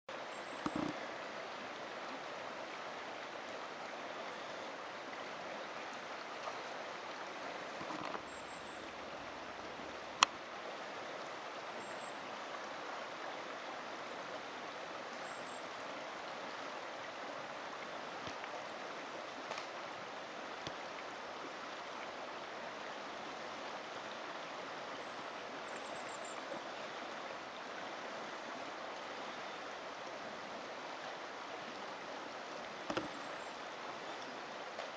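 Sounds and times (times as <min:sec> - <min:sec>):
river flowing: 0:00.1 - 0:34.9.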